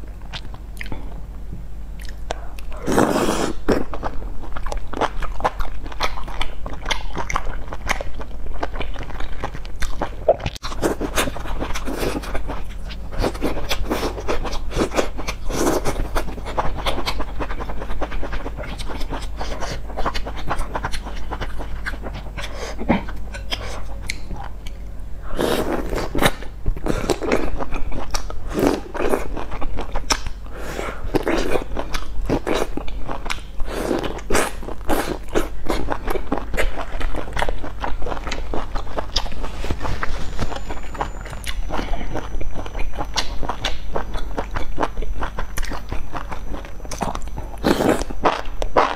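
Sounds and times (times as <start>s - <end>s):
steady low hum: 0.0s - 48.9s
crackly biting and chewing: 2.0s - 24.9s, 25.5s - 48.9s.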